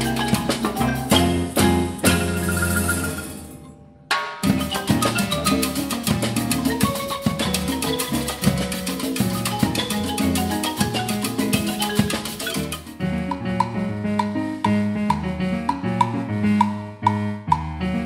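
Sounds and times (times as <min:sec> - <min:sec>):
electric keyboard: 0:00.0 - 0:03.7, 0:04.4 - 0:18.0
latin percussion ensemble: 0:00.0 - 0:18.0
marimba notes: 0:00.0 - 0:18.0.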